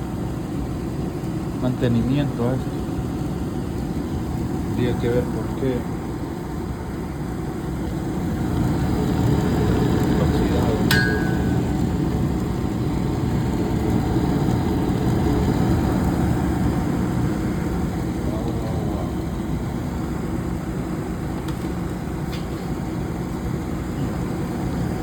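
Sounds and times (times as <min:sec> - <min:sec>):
furnace fan running: 0:00.0 - 0:25.0.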